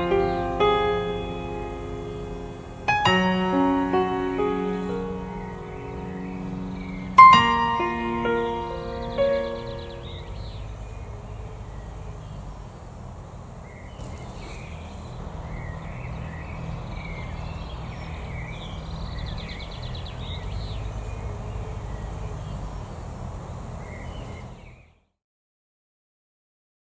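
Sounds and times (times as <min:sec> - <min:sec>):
small birds chirping: 0:00.0 - 0:25.1.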